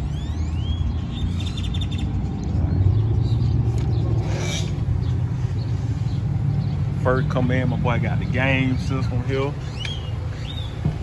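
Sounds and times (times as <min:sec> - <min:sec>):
bird chirping trill: 0:00.0 - 0:11.0.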